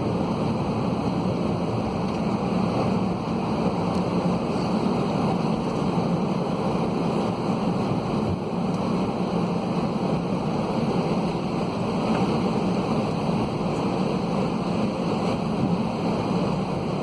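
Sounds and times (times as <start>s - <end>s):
jet engines idling in cabin: 0.0s - 17.0s.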